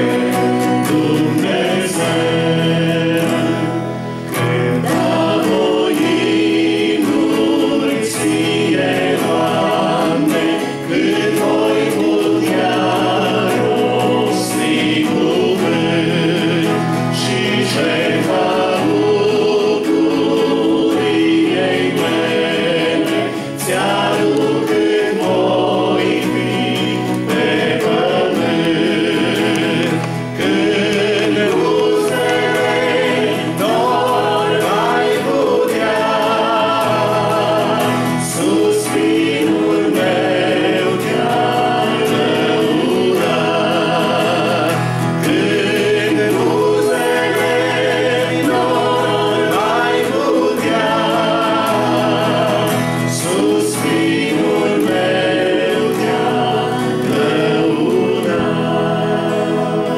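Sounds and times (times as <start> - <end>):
group singing a hymn: 0.0 - 59.9
strummed acoustic guitar: 0.0 - 59.9.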